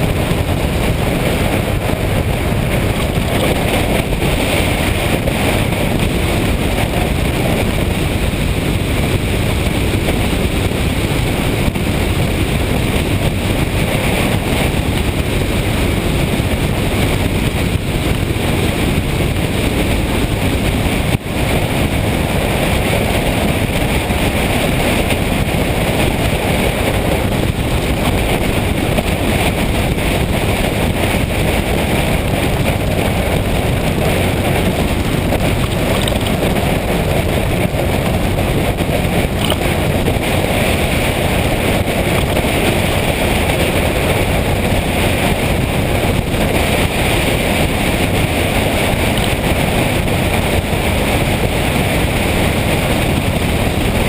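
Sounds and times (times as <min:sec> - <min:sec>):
motorcycle wind and road noise: 0:00.0 - 0:54.0.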